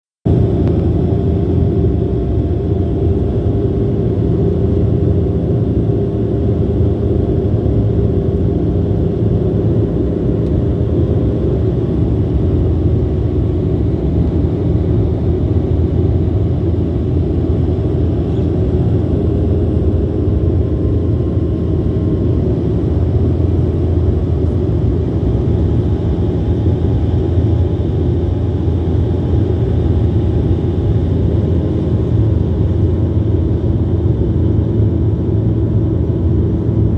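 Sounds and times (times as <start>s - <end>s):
jet engines and airflow rumble: 0.3s - 36.9s.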